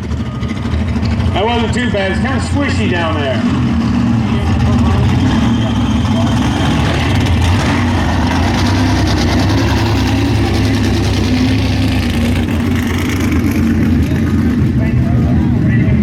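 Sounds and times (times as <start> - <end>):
truck engine running loud: 0.0 - 16.0.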